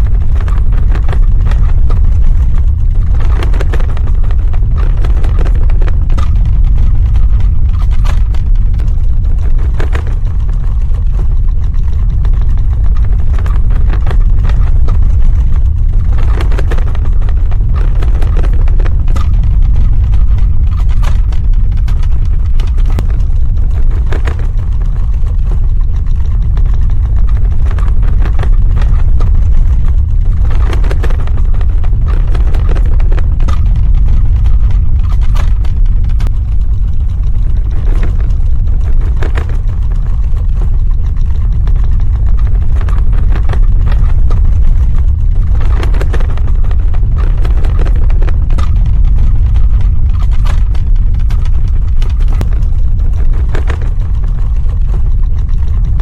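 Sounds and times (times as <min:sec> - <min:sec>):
crackling and rattling: 0:00.0 - 0:56.0
deep low rumble: 0:00.0 - 0:56.0.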